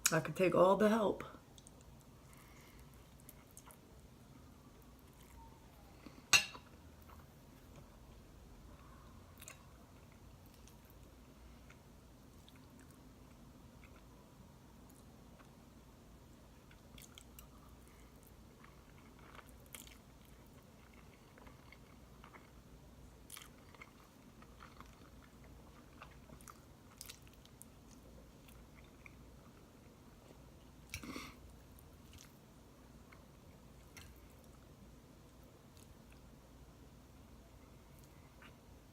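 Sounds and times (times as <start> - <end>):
low room hum: 0.0 - 38.9
person chewing food: 1.5 - 4.1, 4.7 - 14.3, 16.6 - 32.4, 33.0 - 36.3, 37.7 - 38.7.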